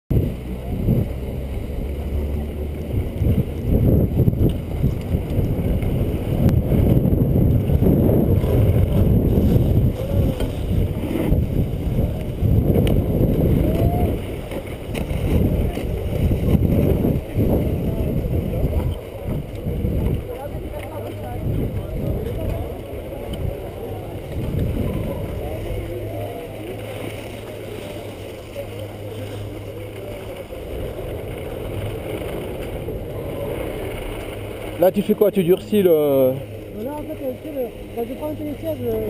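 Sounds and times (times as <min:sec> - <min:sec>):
wind buffeting microphone: 0:00.1 - 0:39.0.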